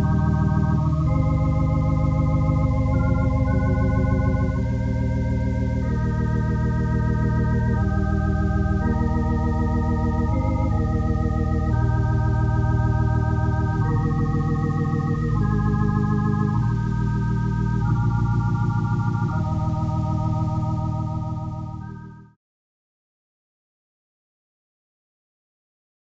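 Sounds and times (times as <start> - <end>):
organ playing sustained chords: 0.0 - 22.4.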